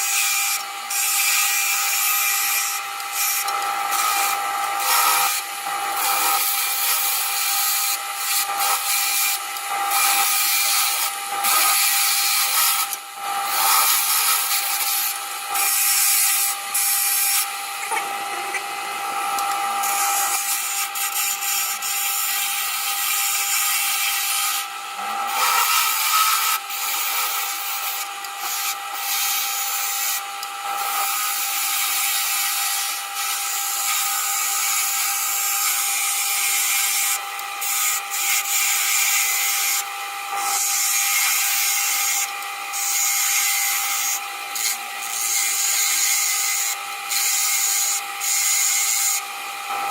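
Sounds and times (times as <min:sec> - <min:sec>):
lathe motor whine: 0:00.0 - 0:49.9
tool cutting wood hiss: 0:00.0 - 0:49.9.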